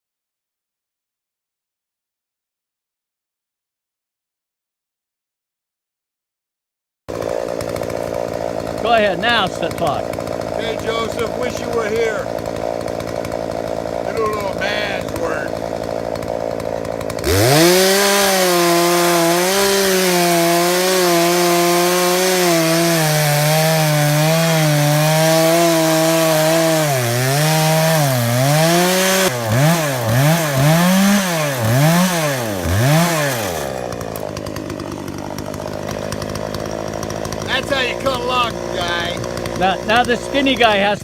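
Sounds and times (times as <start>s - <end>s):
chainsaw cutting log: 7.1s - 41.0s
chainsaw idling: 7.1s - 41.0s
chainsaw revving: 7.1s - 41.0s.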